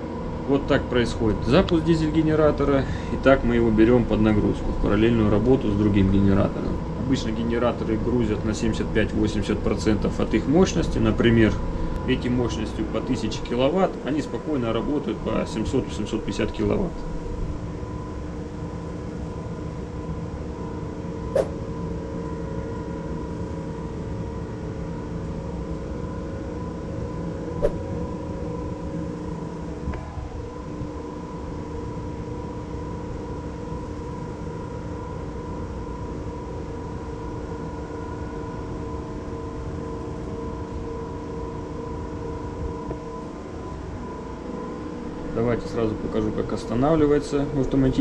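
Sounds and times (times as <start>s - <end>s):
engine room machinery drone: 0.0s - 48.0s.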